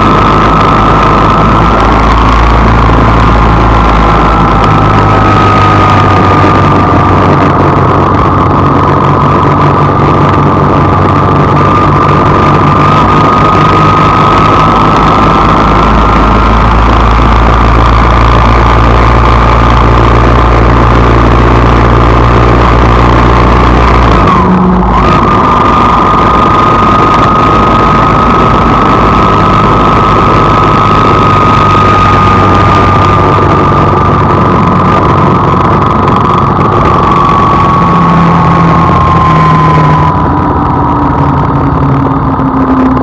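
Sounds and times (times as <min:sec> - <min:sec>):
car engine and road noise: 0:00.0 - 0:43.0
high whine: 0:00.0 - 0:43.0.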